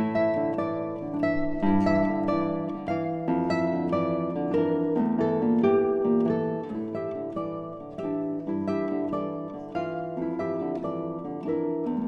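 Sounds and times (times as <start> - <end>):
nylon-string guitars plucking: 0.0 - 12.0.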